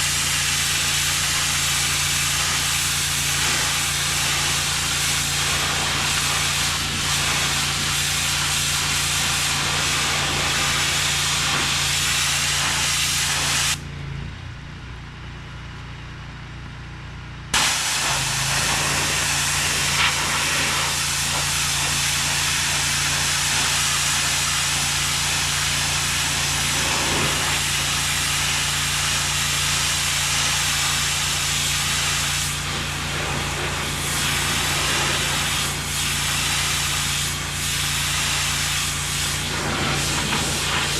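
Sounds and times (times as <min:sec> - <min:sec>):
pressure washer spray hissing: 0:00.0 - 0:13.8, 0:17.6 - 0:40.9.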